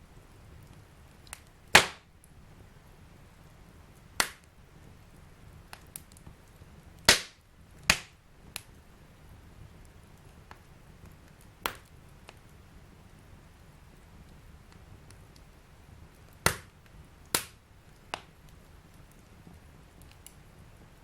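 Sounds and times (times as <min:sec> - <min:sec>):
fire crackling with sharp pops: 0:00.1 - 0:21.0.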